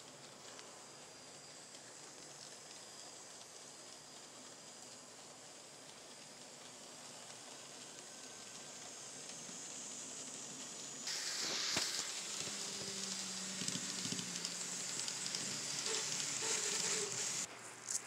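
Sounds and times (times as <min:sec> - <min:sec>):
model train whirring: 0:00.0 - 0:18.0.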